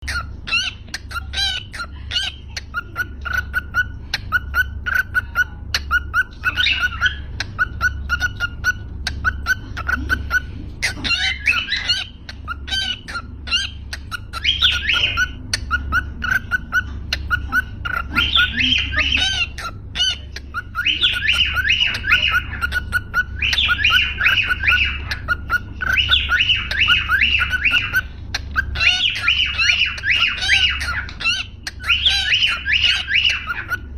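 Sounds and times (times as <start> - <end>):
low steady hum: 0.0 - 33.9
parrots chirping and squawking: 0.0 - 33.9.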